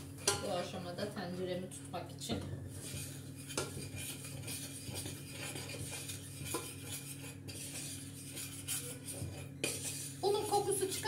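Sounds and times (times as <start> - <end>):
metal spoon scraping a pot: 0.0 - 0.9, 2.7 - 11.0
steady low hum: 0.0 - 11.0.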